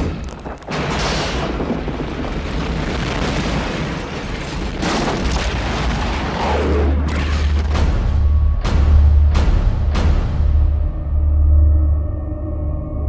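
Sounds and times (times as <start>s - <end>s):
explosion-like rumble and roar: 0.0s - 12.6s.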